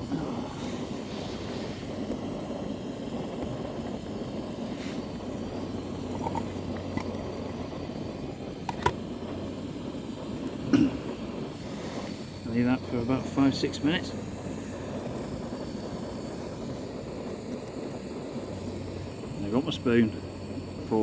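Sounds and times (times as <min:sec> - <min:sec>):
gas stove burner rushing: 0:00.0 - 0:21.0.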